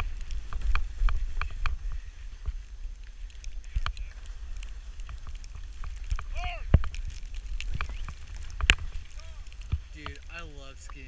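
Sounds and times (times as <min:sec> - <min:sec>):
skis hissing on snow: 0:00.0 - 0:11.0
wind buffeting microphone: 0:00.0 - 0:11.0.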